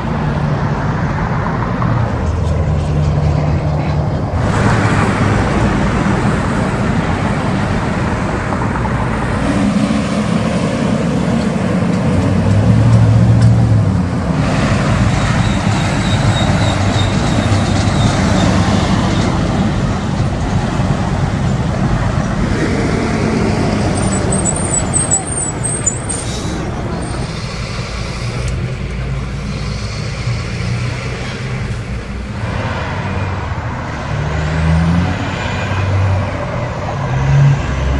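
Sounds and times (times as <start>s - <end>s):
truck engine: 0.0s - 37.9s
trucks and cars passing: 0.0s - 37.9s.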